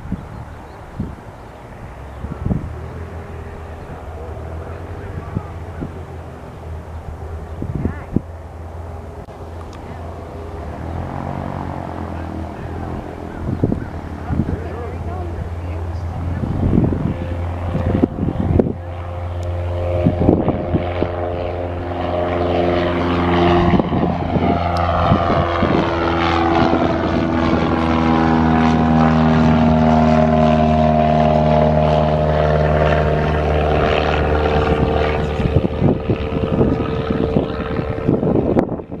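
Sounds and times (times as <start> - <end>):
propeller airplane flying past: 0.0 - 39.0.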